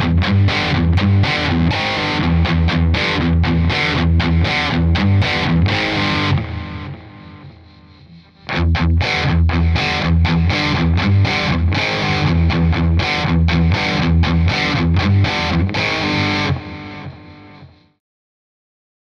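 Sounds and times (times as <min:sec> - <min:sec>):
distorted electric guitar riff: 0:00.0 - 0:18.0.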